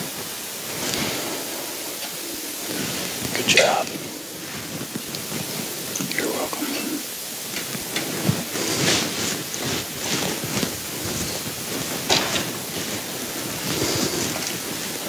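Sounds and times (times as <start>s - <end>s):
rustling of congregation: 0.0s - 15.0s
steady hiss: 0.0s - 15.0s.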